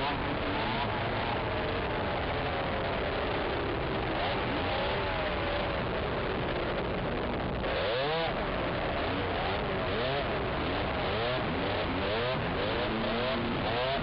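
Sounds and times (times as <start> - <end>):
quad engine revving: 0.0 - 14.0.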